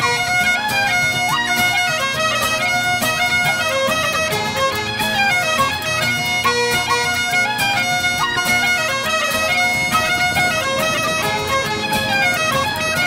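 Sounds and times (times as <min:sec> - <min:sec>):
instrumental traditional music: 0:00.0 - 0:13.0.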